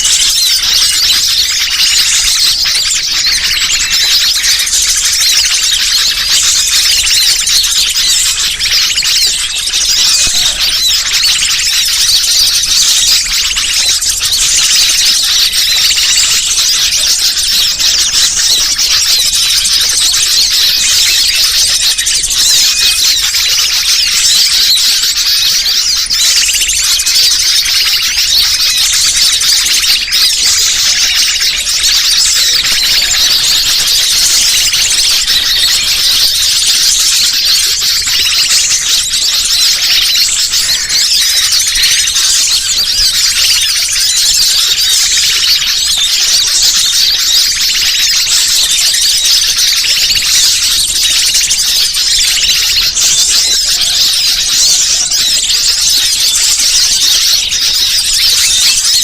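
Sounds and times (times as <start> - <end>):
small birds chattering: 0.0 - 59.0.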